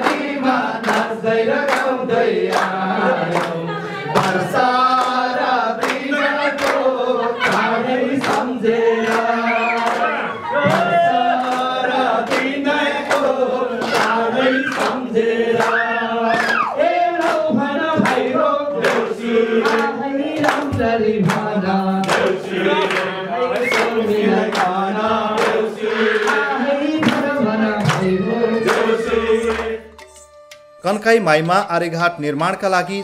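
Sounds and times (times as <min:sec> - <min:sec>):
hand claps: 0:00.0 - 0:03.6, 0:04.2 - 0:30.8
group singing call-and-response: 0:00.0 - 0:30.8.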